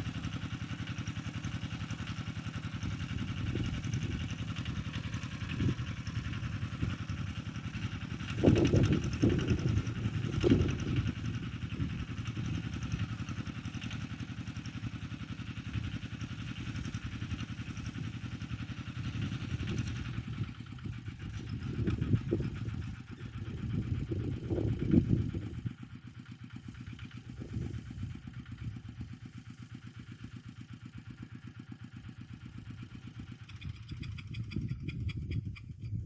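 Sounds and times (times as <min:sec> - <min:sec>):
ploughing machine engine running: 0:00.0 - 0:36.0.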